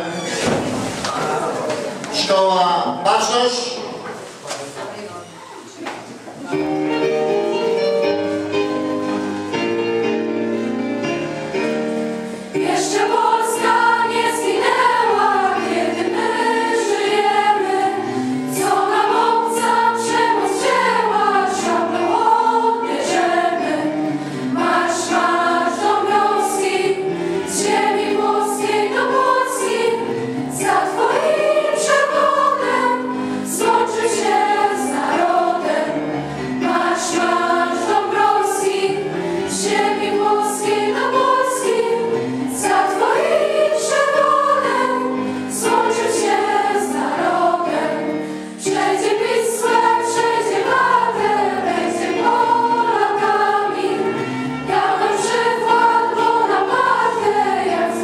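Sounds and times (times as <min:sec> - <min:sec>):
children's choir singing: 0:06.5 - 0:58.0.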